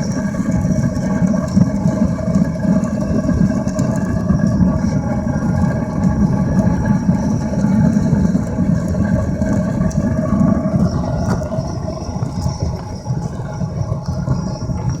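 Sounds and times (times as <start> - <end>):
burner rumbling: 0.0 - 15.0.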